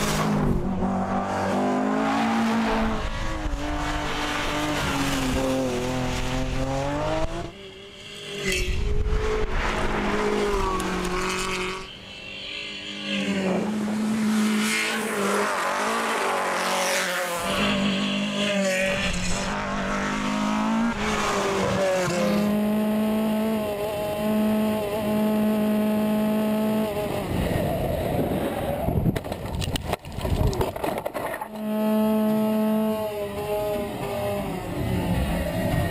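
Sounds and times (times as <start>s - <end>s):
race car engines revving: 0.0s - 11.9s, 13.1s - 29.0s, 31.3s - 35.9s.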